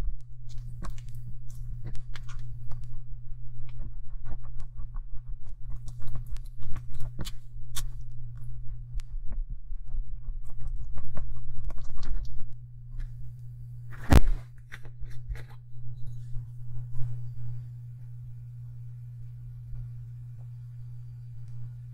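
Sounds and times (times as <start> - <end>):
low hum: 0.0 - 21.9.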